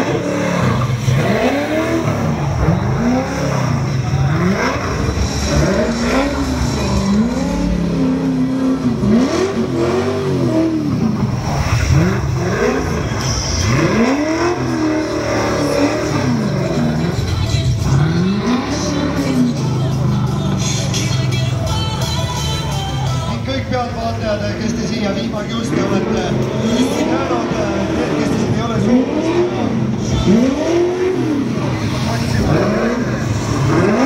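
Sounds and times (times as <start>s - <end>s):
car engine revving while drifting: 0.0s - 21.0s, 24.6s - 34.0s.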